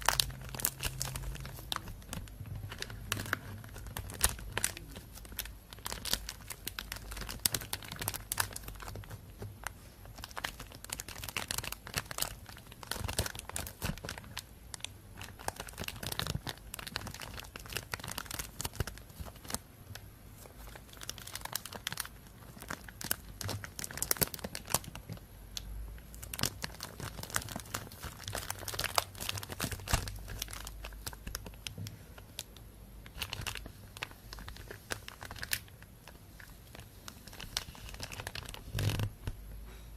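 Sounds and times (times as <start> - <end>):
plastic bag crinkling: 0.0 - 25.2, 26.0 - 39.4.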